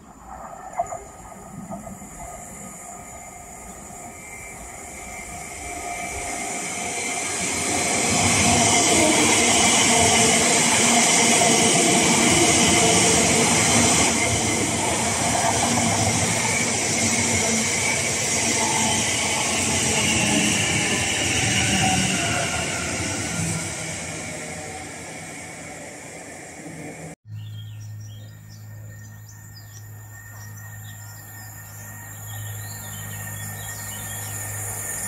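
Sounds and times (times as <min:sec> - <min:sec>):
electric train passing: 0:00.0 - 0:27.2, 0:28.3 - 0:35.0.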